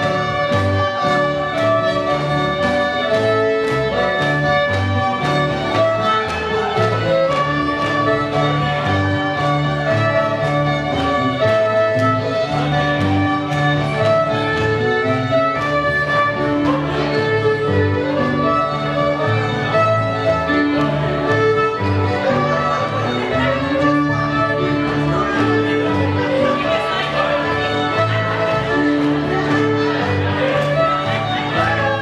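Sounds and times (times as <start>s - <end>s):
fiddle reel music: 0.0s - 32.0s.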